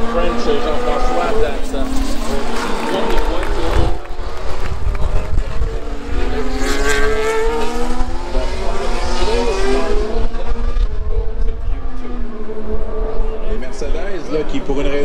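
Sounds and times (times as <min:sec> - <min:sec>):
racing car engine at speed: 0:00.0 - 0:15.0.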